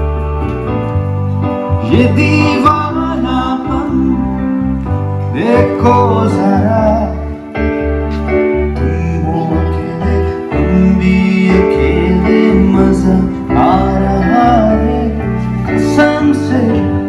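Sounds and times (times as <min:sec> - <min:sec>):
keyboard and piano: 0:00.0 - 0:17.0
steady low bass: 0:00.0 - 0:17.0
person singing: 0:01.5 - 0:17.0.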